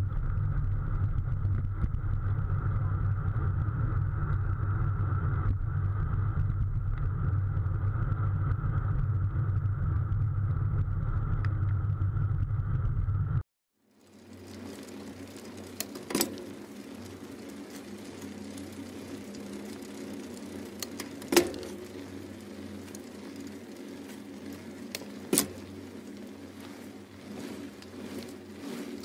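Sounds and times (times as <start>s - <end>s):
road and traffic rumble: 0.0s - 29.0s.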